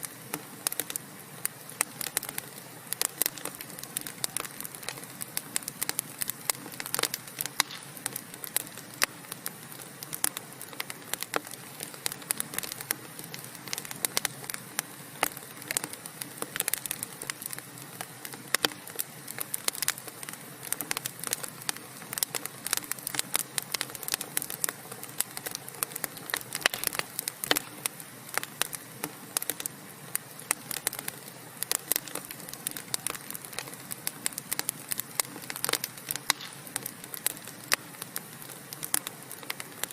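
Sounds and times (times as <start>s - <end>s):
steady fire hiss: 0.0s - 39.9s
wood fire crackling: 0.0s - 39.9s.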